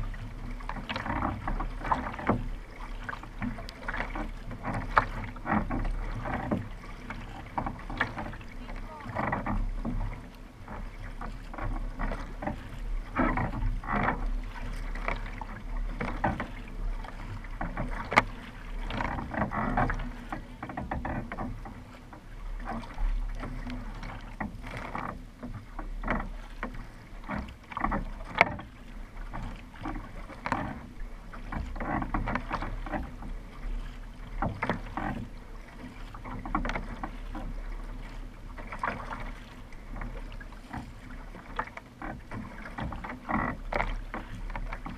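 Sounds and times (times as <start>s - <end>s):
paddle strokes splashing: 0.0s - 44.9s
water rushing along hull: 0.0s - 44.9s.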